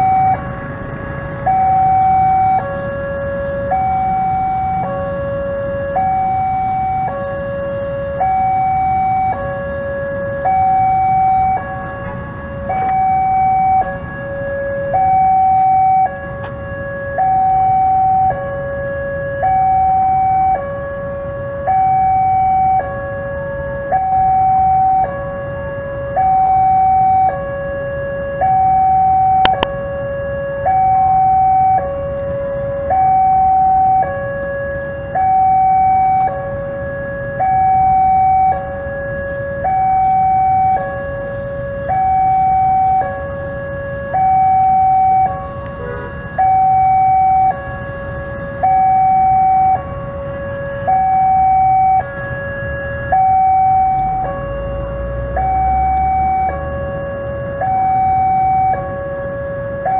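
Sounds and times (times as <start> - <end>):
level crossing two-tone alarm: 0.0 - 59.9.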